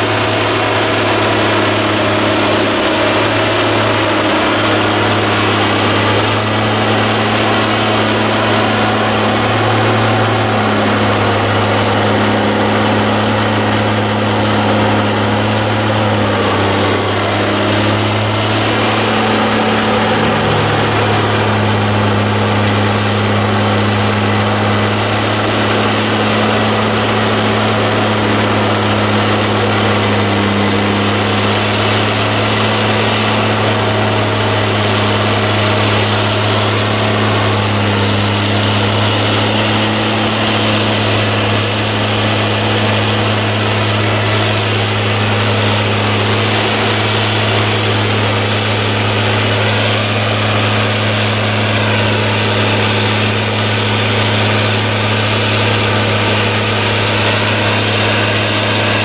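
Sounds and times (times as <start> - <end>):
diesel engine running at low revs: 0.0 - 59.0.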